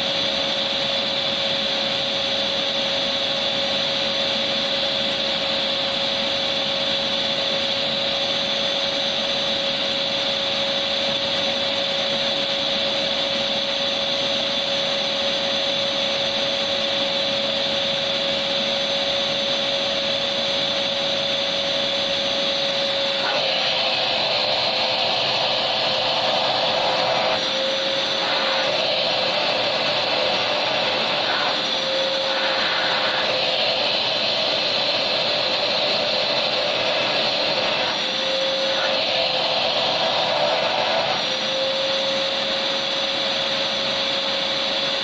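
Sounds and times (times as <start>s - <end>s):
vacuum cleaner motor running: 0.0s - 45.0s.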